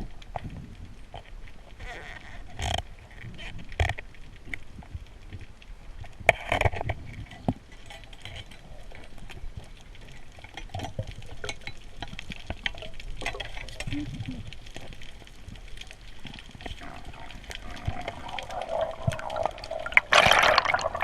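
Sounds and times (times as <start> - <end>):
water splashing and sloshing: 0.2 - 21.0.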